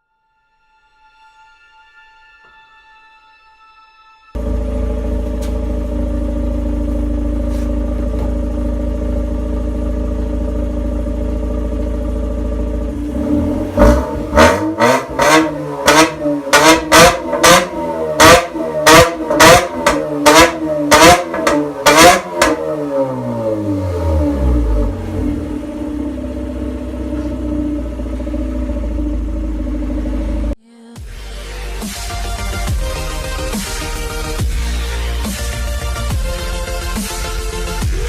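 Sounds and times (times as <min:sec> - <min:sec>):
rotary engine exhaust idling and revving: 0:04.4 - 0:30.6, 0:31.2 - 0:38.0.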